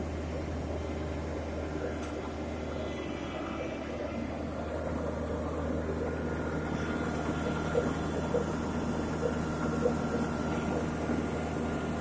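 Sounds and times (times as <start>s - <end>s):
drilling rig engine droning: 0.0s - 12.0s
faint machine whine: 0.0s - 12.0s.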